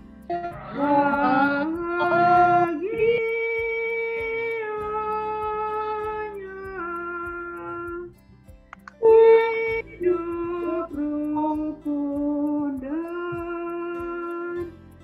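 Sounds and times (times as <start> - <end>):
woman singing a hymn: 0.6 - 8.1, 9.0 - 14.7.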